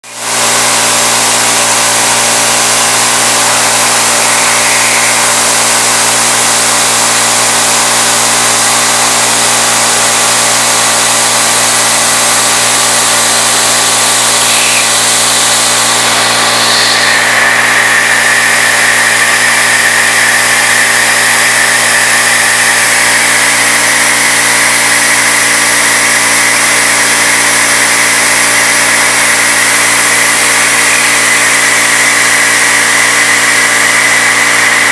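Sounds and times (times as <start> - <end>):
milling machine cutting metal: 0.0 - 34.9.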